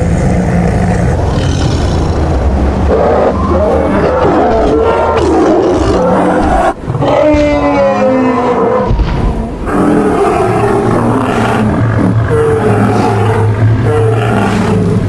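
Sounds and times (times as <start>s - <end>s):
animal roars and bellows: 0.0s - 15.0s.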